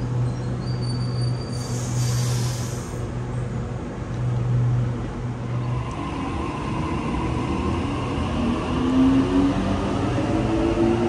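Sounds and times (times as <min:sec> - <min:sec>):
train low hum: 0:00.0 - 0:11.0.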